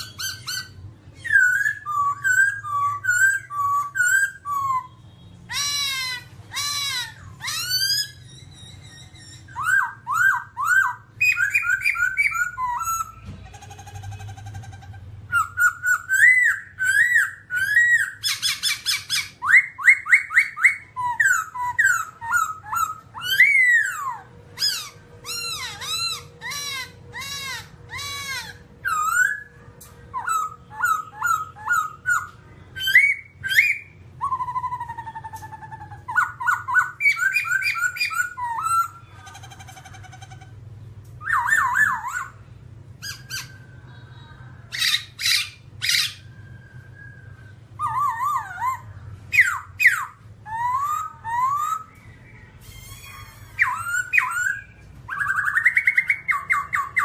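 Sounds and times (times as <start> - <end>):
bird singing whistled song: 0.0 - 13.3, 15.3 - 39.0, 41.1 - 42.4, 44.7 - 57.0.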